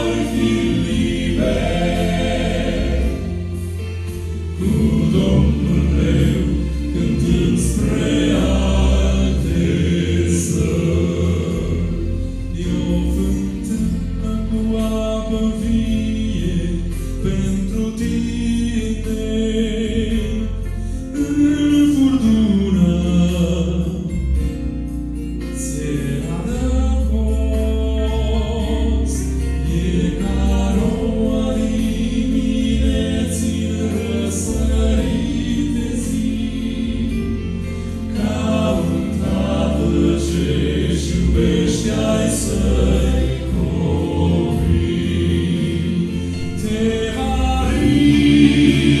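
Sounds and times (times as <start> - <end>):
low bass: 0.0 - 49.0
male vocal quartet singing gospel: 0.0 - 49.0.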